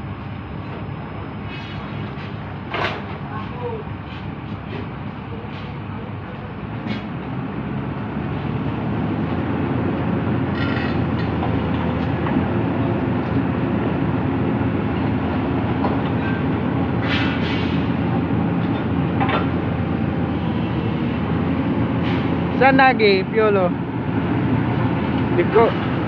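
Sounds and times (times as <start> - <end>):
heavy diesel engine rumbling: 0.0 - 26.0.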